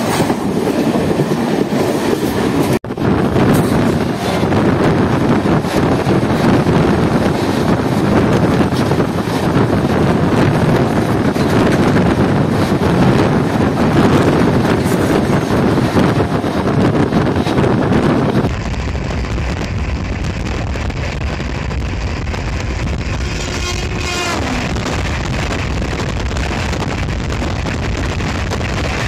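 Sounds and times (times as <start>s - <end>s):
wind and rail noise: 0.0s - 29.0s.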